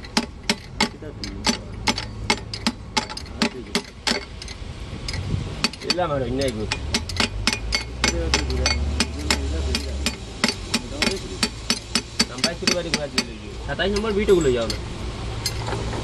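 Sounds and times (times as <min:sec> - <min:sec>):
hammer tapping steel punch: 0:00.0 - 0:13.3.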